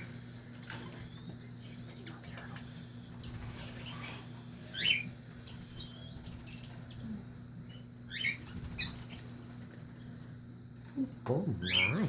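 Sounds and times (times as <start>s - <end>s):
low steady hum: 0.0s - 12.0s
pet birds chirping: 0.0s - 12.0s.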